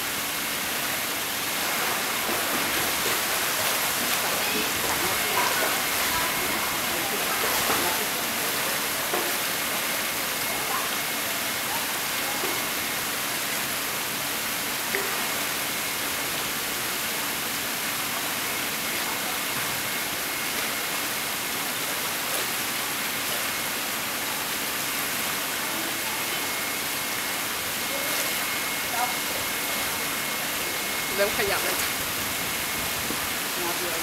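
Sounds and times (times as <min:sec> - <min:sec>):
running pool water: 0:00.0 - 0:34.0.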